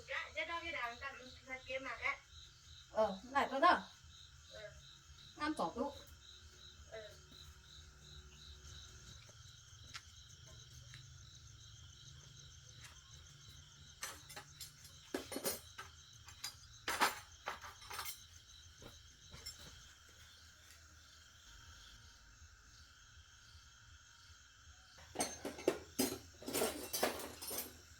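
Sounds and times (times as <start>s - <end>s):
insect chirping: 0.0s - 27.9s.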